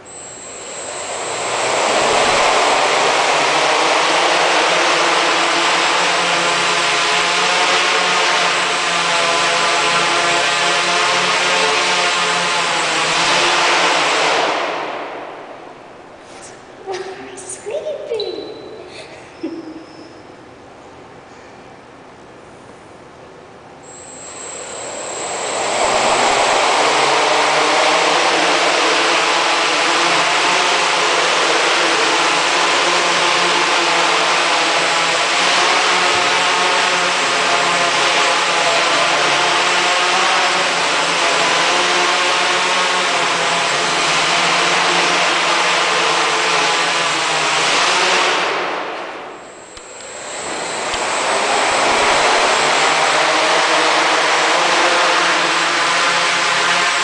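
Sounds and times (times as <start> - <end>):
quadcopter motors whining: 0.0 - 15.1, 23.8 - 57.0.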